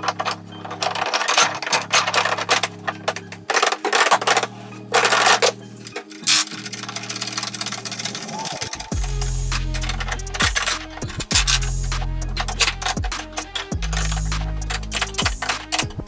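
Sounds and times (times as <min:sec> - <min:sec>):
background music: 0:00.0 - 0:16.0
metal clinking and knocking: 0:00.0 - 0:16.0.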